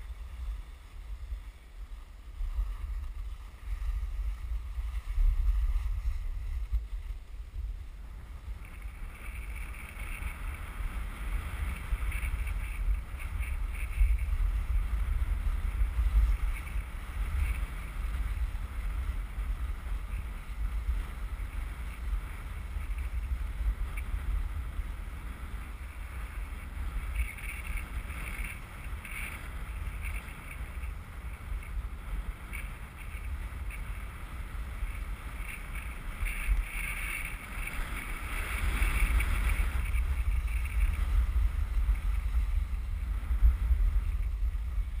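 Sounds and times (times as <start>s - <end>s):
skis sliding on packed snow: 0.0s - 45.0s
wind buffeting microphone: 0.0s - 45.0s.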